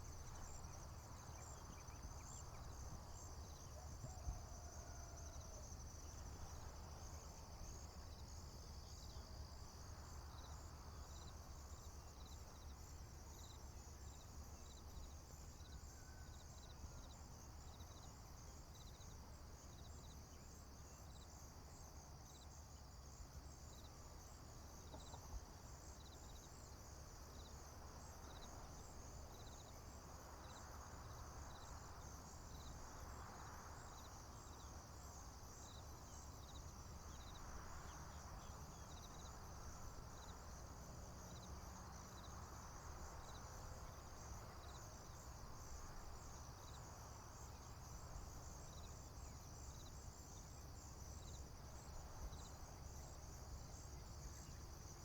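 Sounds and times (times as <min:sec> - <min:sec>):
crickets trilling: 0:00.0 - 0:55.0
insect chirp: 0:00.0 - 0:55.0.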